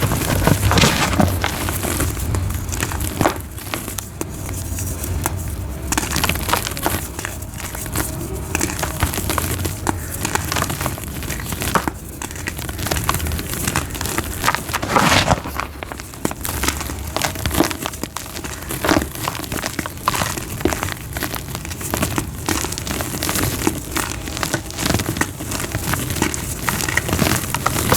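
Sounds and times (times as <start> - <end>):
chalk being crushed: 0.0 - 27.9.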